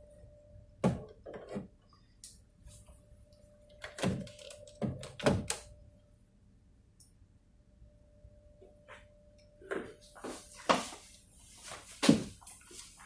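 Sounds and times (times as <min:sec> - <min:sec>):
faint high hum: 0:00.0 - 0:01.2, 0:01.8 - 0:13.0.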